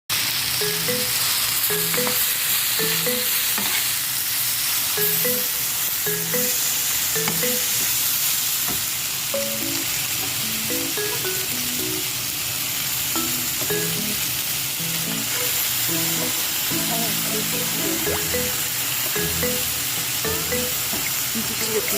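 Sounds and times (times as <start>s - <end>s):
food sizzling in a pan: 0.1s - 21.9s
background music melody: 0.6s - 3.6s, 5.0s - 7.9s, 9.3s - 12.4s, 13.1s - 21.9s.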